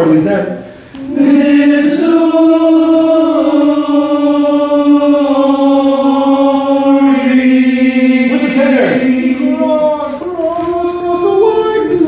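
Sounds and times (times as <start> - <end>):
men singing a held note: 1.0 - 12.0.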